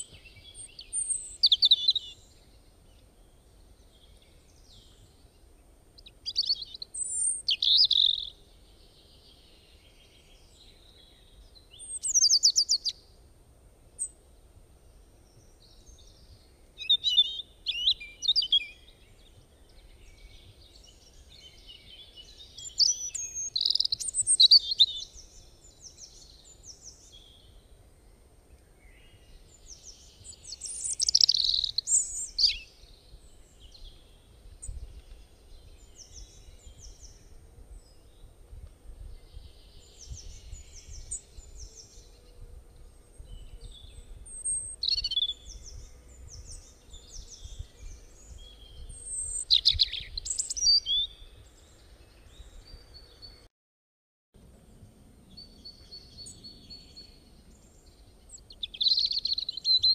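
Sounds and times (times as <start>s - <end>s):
birds chirping and twittering: 0.0s - 13.2s, 14.8s - 53.5s, 54.6s - 59.9s.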